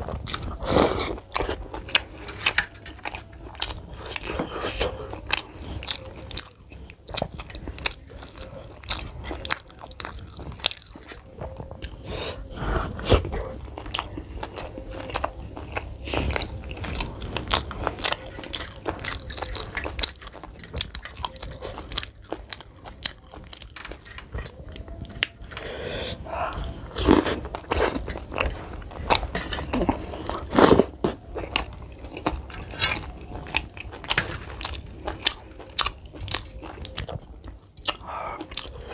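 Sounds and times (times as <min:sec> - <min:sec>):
person chewing with mouth clicks: 0:00.0 - 0:38.9.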